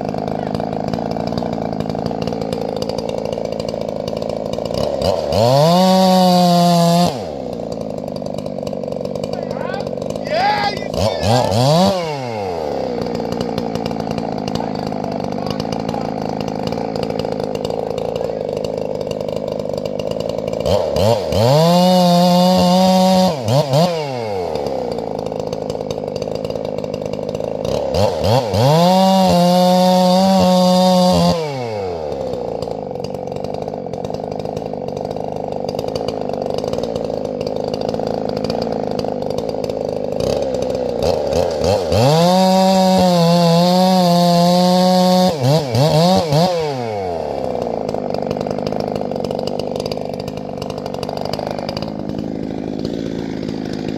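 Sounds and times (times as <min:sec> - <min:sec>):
chainsaw revving: 0:00.0 - 0:53.9
second chainsaw running steadily: 0:00.0 - 0:53.9.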